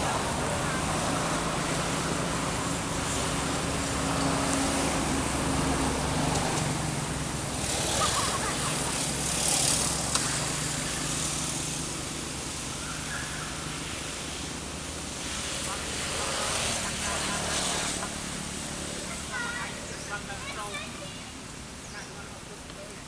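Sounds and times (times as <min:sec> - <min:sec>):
motor engine hum: 0:00.0 - 0:21.0.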